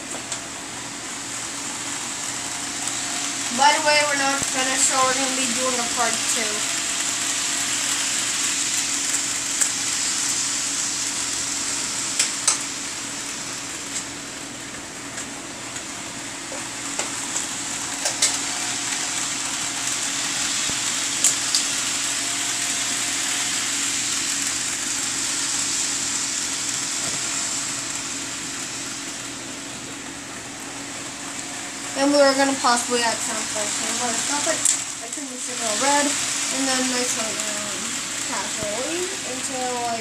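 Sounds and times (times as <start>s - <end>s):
model train whirring: 0.0s - 40.0s.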